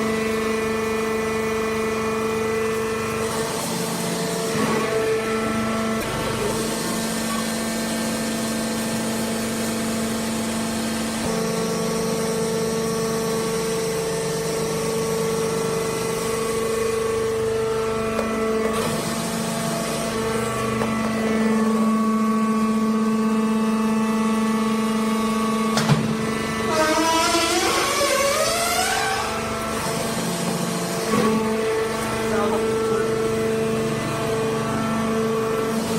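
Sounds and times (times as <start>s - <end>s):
hydraulic pump humming: 0.0s - 35.9s.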